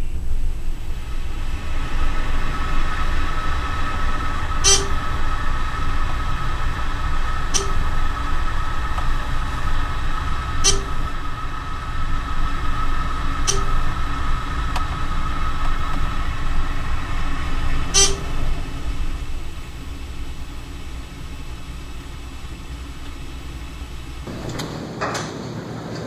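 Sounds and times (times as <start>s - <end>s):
elevator doors opening rush: 0.0s - 26.0s
elevator humming and rumbling: 0.0s - 26.0s.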